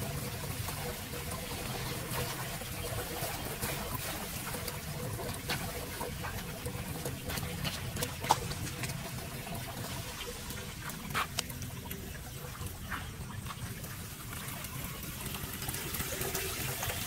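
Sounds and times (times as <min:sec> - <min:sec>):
small drips and clicks: 0:00.0 - 0:17.0
water trickling into storm drain: 0:00.0 - 0:17.0.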